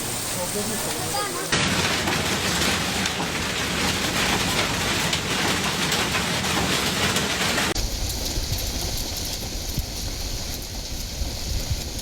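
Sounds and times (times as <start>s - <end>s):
heavy rain on hard surfaces: 0.0s - 12.0s.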